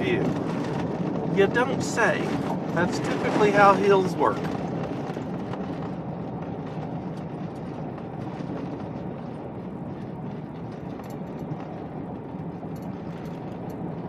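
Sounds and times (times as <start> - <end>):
truck engine and tyre rumble: 0.0 - 14.0.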